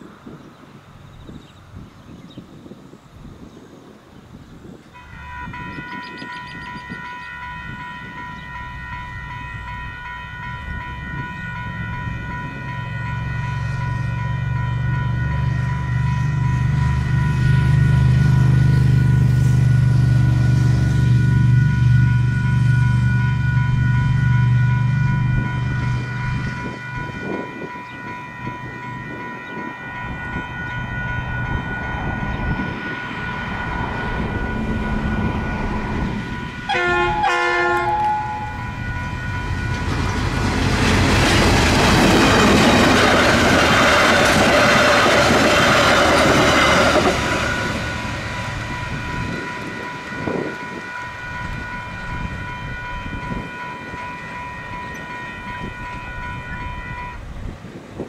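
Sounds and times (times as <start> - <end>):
diesel train passing: 0.0 - 58.0
level crossing warning bells: 4.9 - 57.4
train horn: 4.9 - 58.0.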